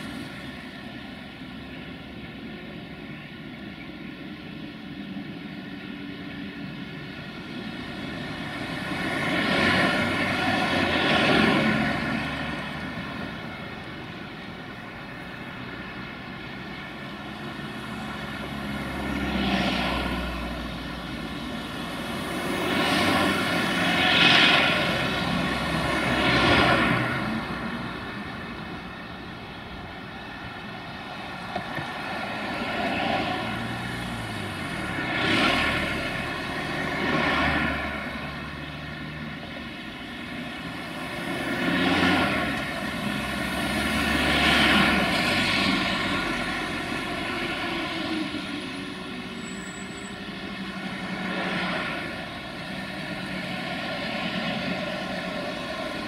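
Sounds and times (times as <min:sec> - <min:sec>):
diesel locomotive drone: 0:00.0 - 0:56.0.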